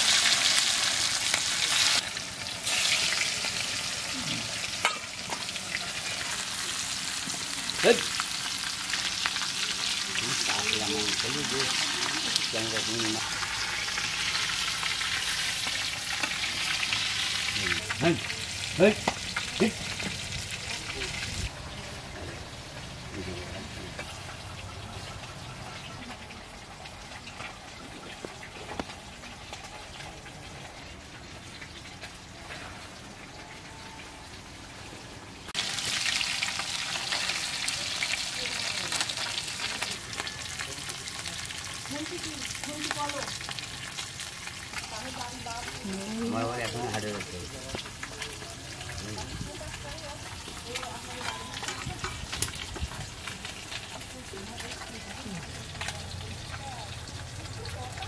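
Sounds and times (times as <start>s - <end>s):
fish sizzling in hot oil: 0.0s - 58.0s.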